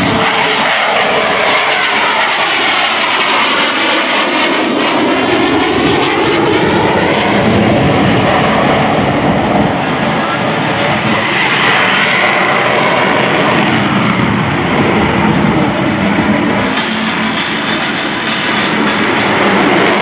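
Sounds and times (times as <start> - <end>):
jet flying by: 0.0 - 20.0.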